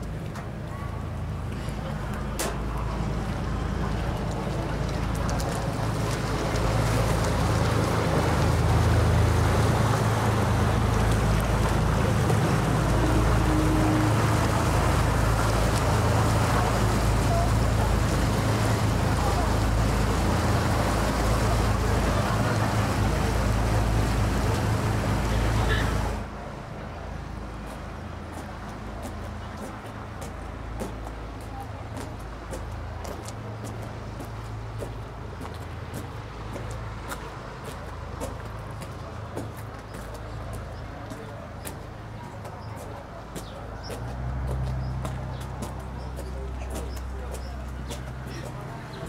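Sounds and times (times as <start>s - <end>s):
boat engine droning: 0.0s - 49.0s
rushing wind and water: 0.0s - 49.0s.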